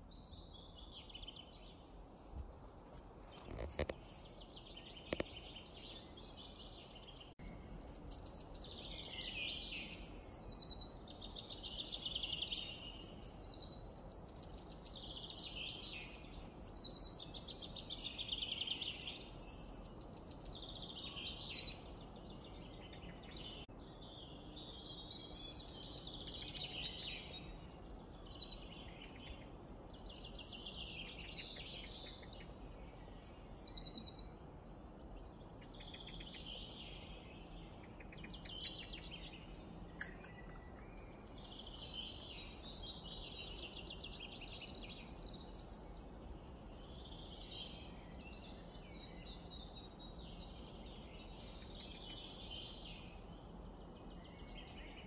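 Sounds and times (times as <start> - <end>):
songbirds singing: 0.0 - 2.1, 2.7 - 55.0.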